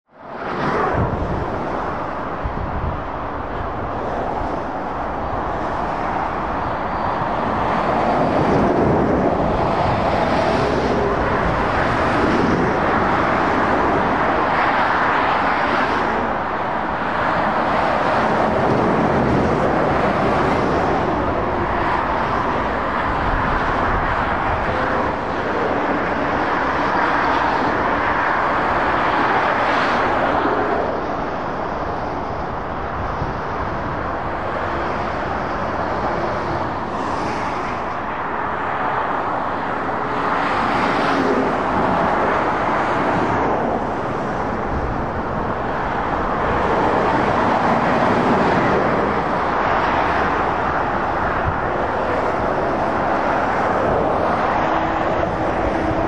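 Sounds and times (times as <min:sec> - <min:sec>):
road traffic passing: 0:00.2 - 0:56.0.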